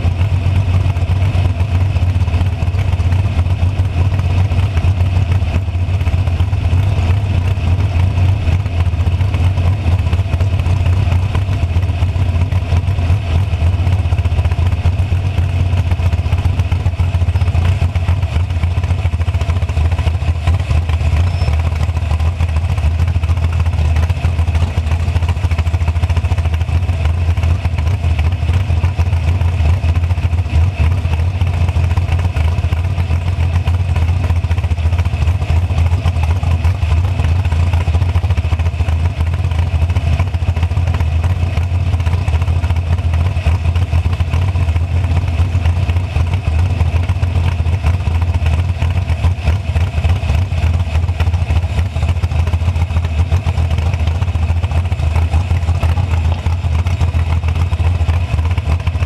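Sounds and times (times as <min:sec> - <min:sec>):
car engine idling with flutter: 0:00.0 - 0:59.0.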